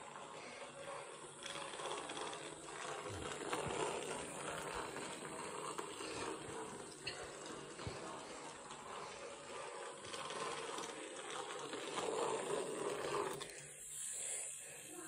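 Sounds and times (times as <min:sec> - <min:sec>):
toy train click: 0:00.0 - 0:15.0
toy train motor whirring: 0:00.0 - 0:15.0.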